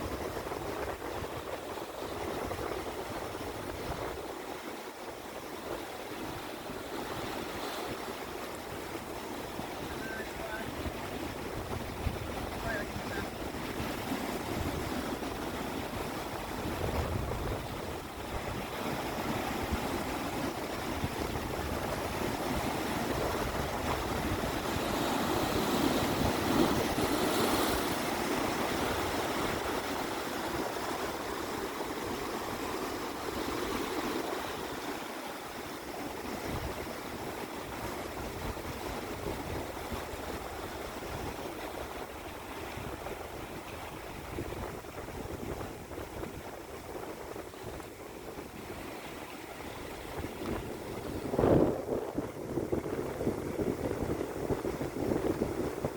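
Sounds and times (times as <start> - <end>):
sea waves washing in: 0.0 - 55.9.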